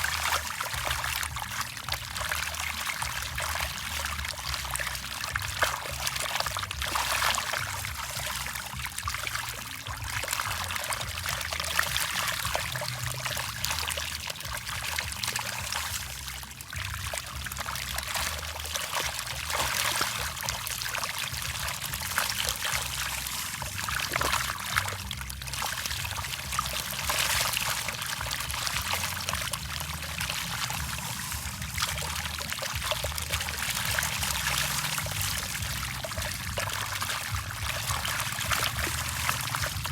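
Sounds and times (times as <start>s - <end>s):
low steady hum: 0.0s - 39.9s
water splashing and trickling: 0.0s - 39.9s.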